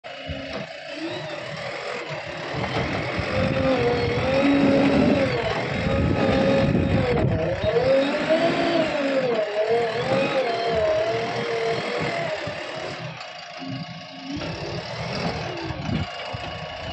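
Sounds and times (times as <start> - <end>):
diesel engine working under load: 0.0 - 16.9.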